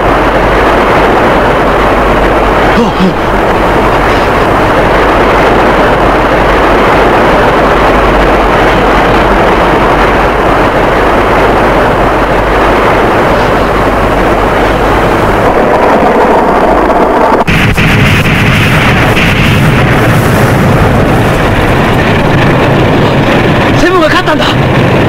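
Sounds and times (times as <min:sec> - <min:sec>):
jet-like rushing roar: 0:00.0 - 0:25.0
low hum: 0:00.0 - 0:25.0.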